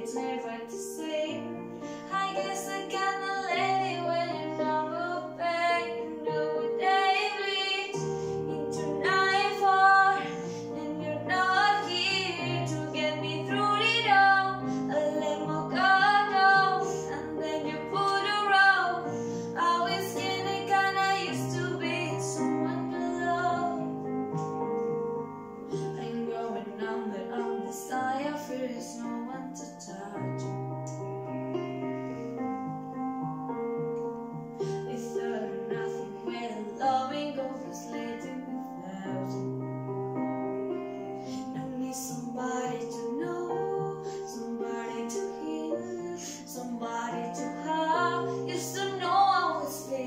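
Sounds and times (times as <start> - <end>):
woman singing: 0.0 - 24.4, 25.7 - 30.7, 34.6 - 39.6, 41.2 - 50.0
instrumental backing track: 0.0 - 43.8.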